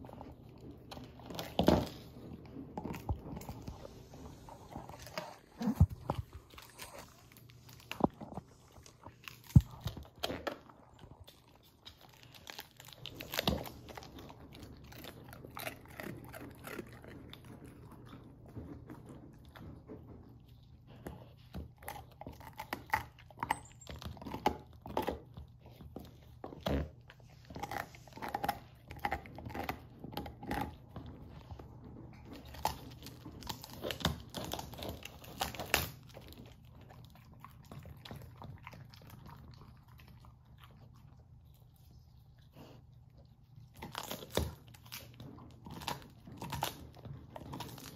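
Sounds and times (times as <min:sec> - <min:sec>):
puppy gnawing on bone: 0:00.0 - 0:47.9.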